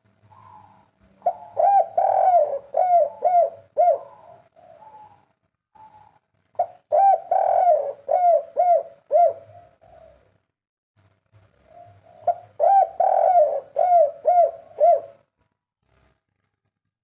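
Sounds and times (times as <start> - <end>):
dove cooing: 0.2 - 10.4, 11.6 - 15.2.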